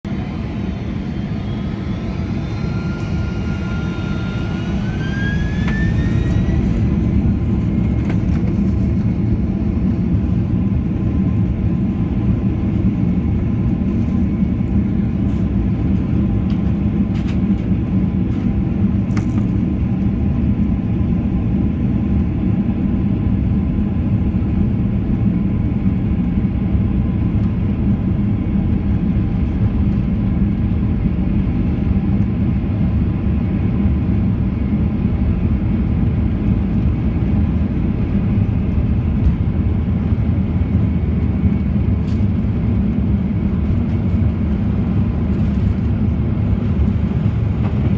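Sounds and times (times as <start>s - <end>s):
jet engines roaring: 0.1s - 47.9s.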